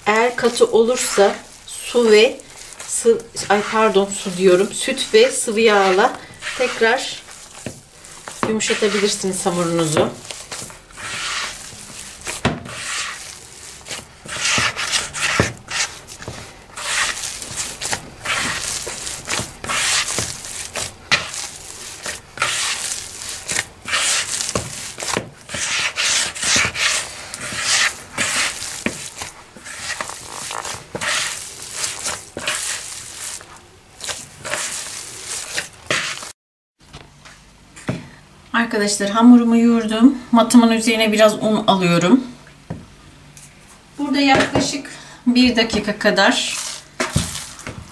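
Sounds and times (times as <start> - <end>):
hands kneading dough: 0.0 - 36.4, 45.5 - 47.9.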